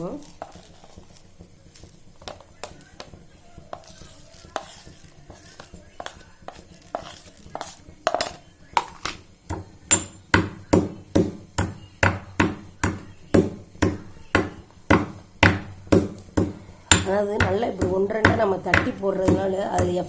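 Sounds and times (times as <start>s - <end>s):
spices being pounded: 0.0s - 20.0s.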